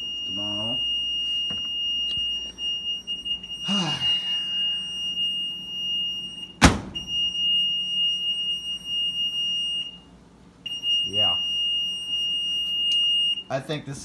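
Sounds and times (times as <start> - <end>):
washer control panel beep: 0.0 - 3.7, 4.4 - 13.8.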